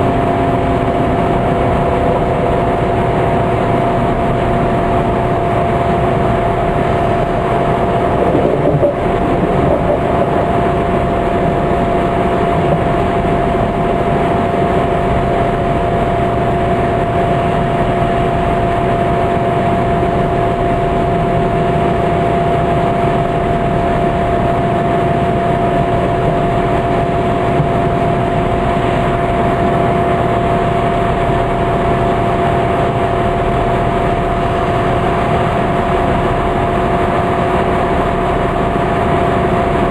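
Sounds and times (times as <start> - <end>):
constant train whine: 0.0 - 39.9
train running rumble: 0.0 - 39.9.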